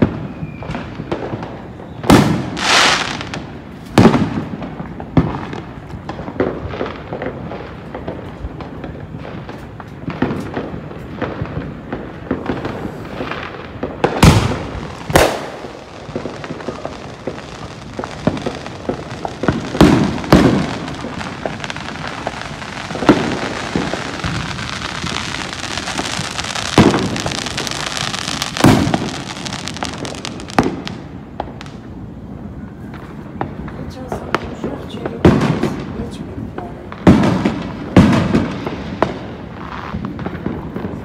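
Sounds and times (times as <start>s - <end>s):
firecrackers crackling: 0.0s - 41.0s
firework bangs: 0.0s - 41.0s.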